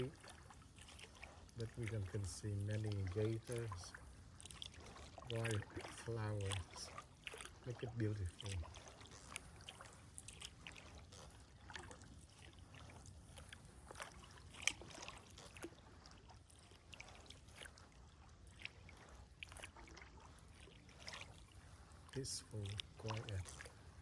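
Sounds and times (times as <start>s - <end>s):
paddle splashing water: 0.0s - 24.0s.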